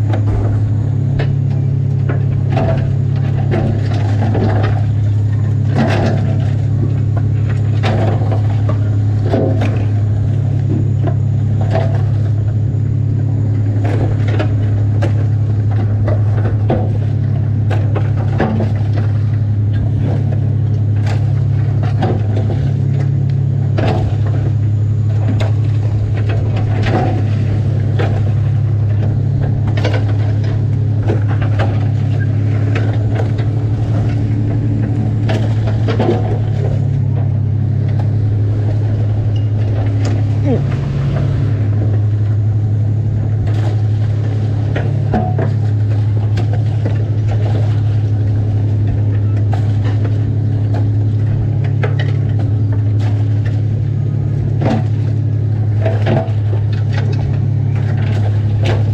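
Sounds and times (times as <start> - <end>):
boat machinery droning: 0.0 - 58.9.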